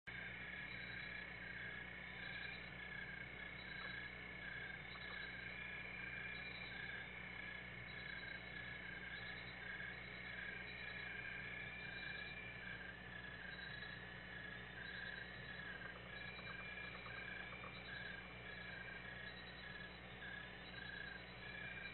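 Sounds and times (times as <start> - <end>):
low steady hum: 0.1 - 21.9
night animals calling: 0.1 - 21.9.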